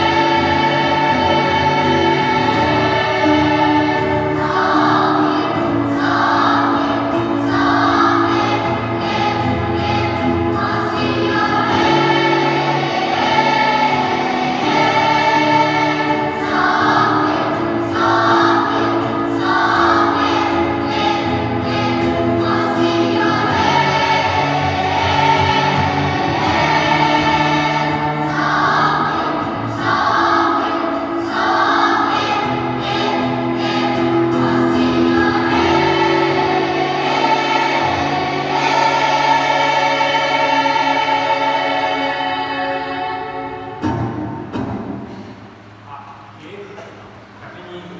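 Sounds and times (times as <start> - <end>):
choir singing in harmony: 0.0 - 45.8.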